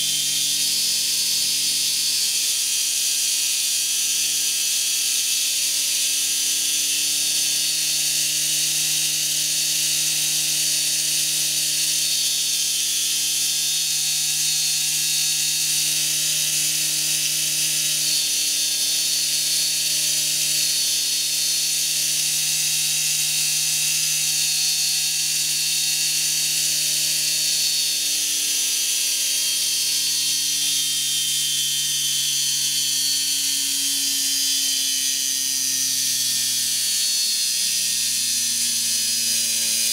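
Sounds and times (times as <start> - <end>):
electric motor humming: 0.0 - 39.9.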